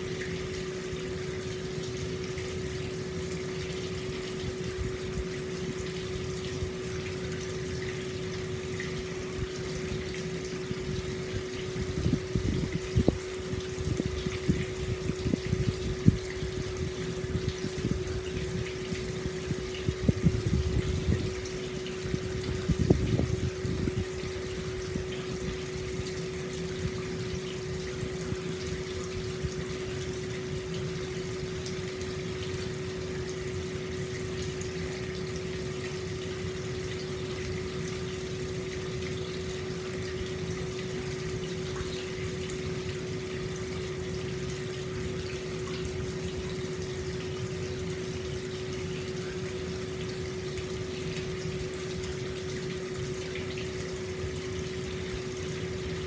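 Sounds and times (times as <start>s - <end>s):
steady low hum: 0.0s - 56.0s
water pouring into a bath: 0.0s - 56.0s.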